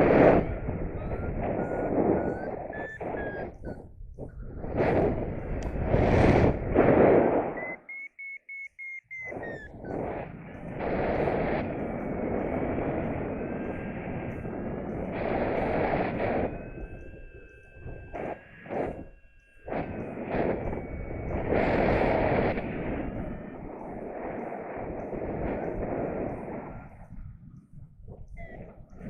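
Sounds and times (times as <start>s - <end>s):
variometer beeps: 0.0s - 6.4s, 7.4s - 29.0s
wind buffeting microphone: 0.0s - 7.8s, 9.1s - 29.0s
faint steady electronic tones: 0.0s - 29.0s.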